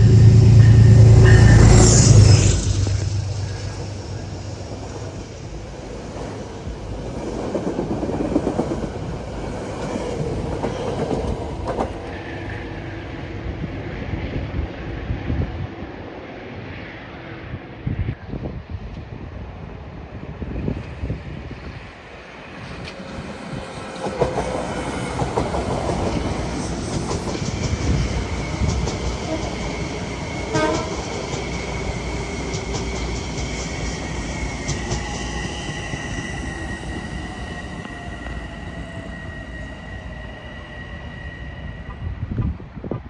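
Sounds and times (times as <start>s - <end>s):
train rumbling past: 0.0s - 43.0s.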